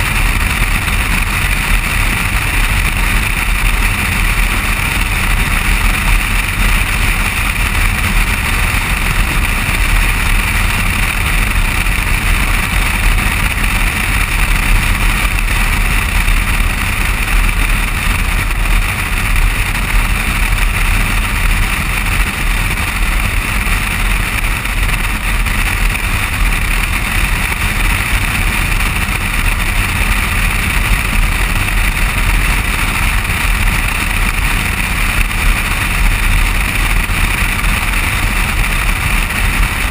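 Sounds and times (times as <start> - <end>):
vehicle road and wind noise: 0.0 - 39.9.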